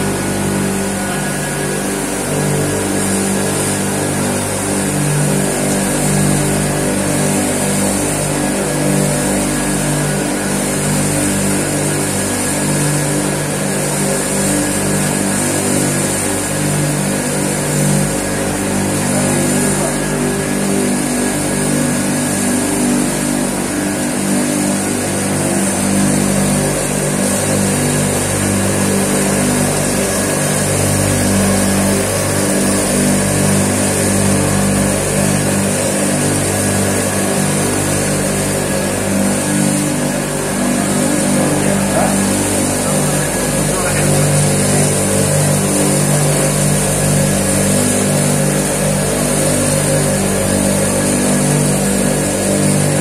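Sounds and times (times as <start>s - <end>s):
engine running steadily: 0.0s - 53.0s.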